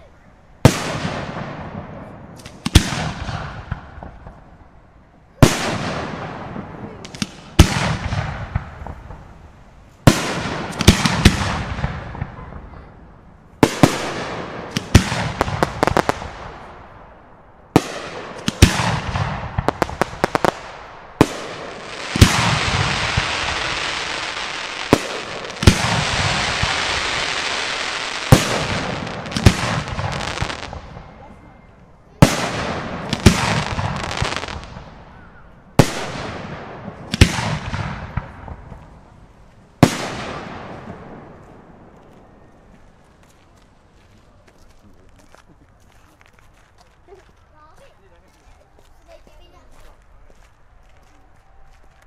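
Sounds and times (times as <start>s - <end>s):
dense firework crackle: 0.6s - 49.0s.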